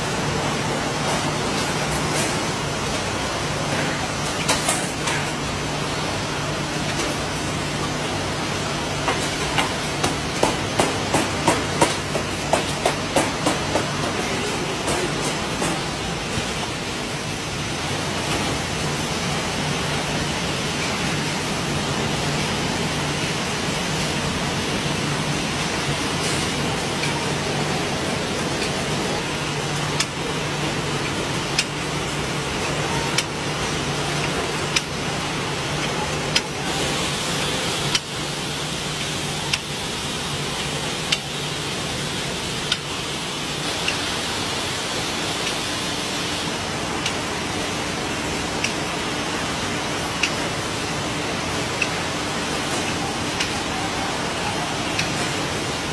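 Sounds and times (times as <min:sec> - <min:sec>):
machinery humming: 0:00.0 - 0:55.9.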